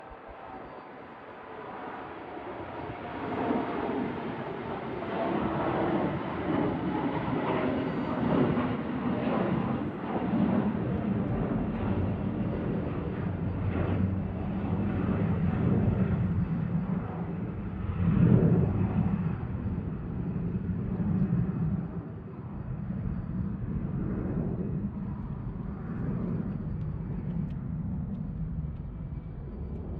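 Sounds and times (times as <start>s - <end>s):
jet engines at takeoff thrust: 0.0s - 29.9s.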